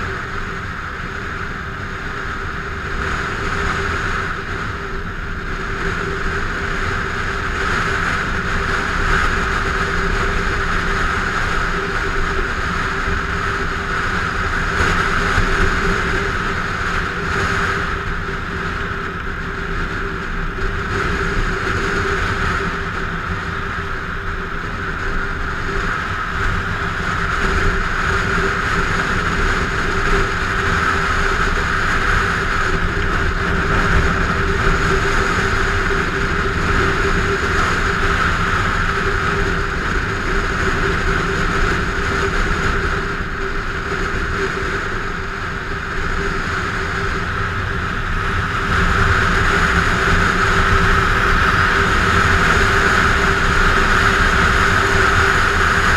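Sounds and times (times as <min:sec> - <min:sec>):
motorcycle engine drone: 0:00.0 - 0:55.9.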